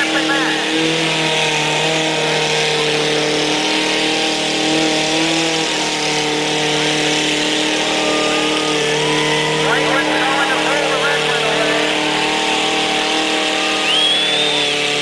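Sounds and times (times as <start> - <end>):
truck engines revving under load: 0.0 - 15.0.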